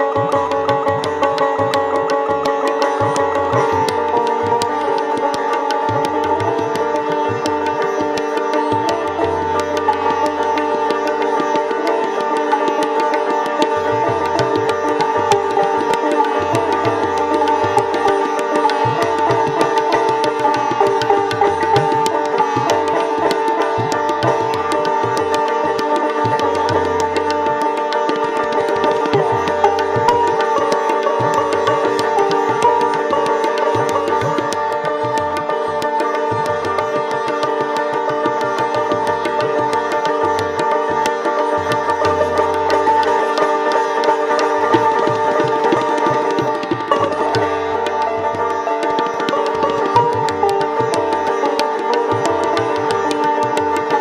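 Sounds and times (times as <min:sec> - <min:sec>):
plucked sitar notes: 0:00.0 - 0:54.0
tabla strokes: 0:00.0 - 0:54.0.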